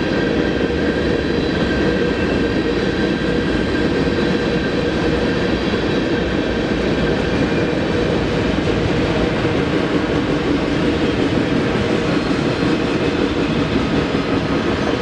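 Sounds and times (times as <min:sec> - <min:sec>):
freight train rumbling on track: 0:00.0 - 0:15.0.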